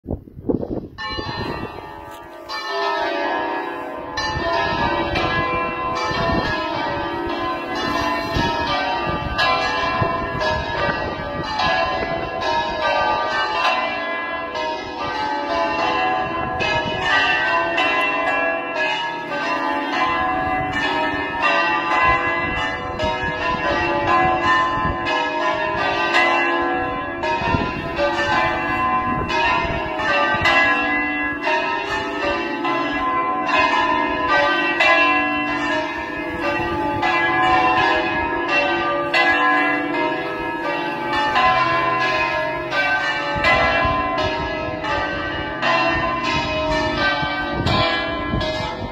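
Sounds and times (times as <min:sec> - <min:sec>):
church bells pealing: 0:00.8 - 0:48.9.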